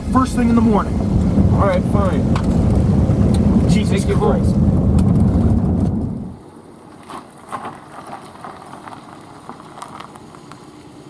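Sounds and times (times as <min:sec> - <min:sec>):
car engine and road rumble: 0:00.0 - 0:11.0
steady hiss with faint crackles: 0:00.0 - 0:11.0.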